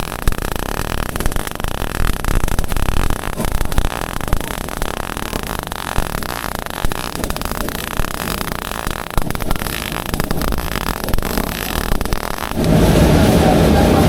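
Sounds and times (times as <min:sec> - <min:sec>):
low steady sound: 0:00.0 - 0:14.0
welding arc crackling: 0:00.0 - 0:14.0.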